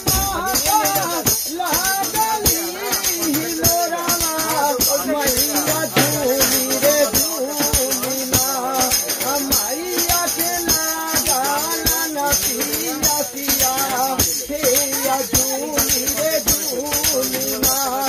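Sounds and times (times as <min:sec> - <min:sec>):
person singing: 0:00.0 - 0:18.0
tambourine jingling: 0:00.0 - 0:18.0.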